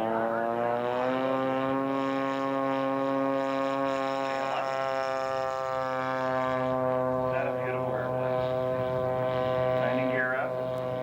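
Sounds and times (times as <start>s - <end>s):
model aircraft engine buzzing: 0.0s - 11.0s.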